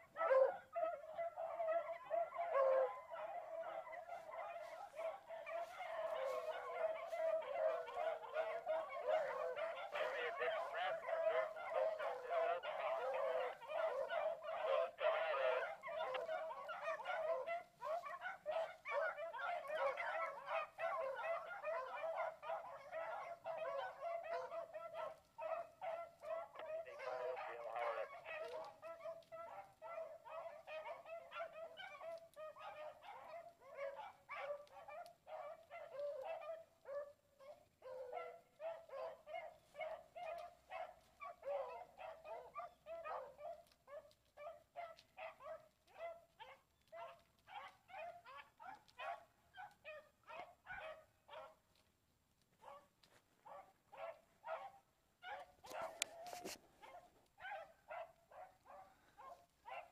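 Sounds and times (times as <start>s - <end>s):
hounds baying: 0.0s - 51.9s, 52.6s - 59.9s.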